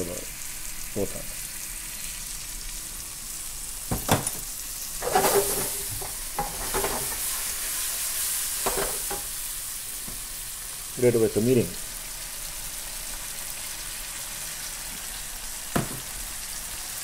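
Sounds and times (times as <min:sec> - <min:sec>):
fish sizzling in a wok: 0:00.0 - 0:17.0.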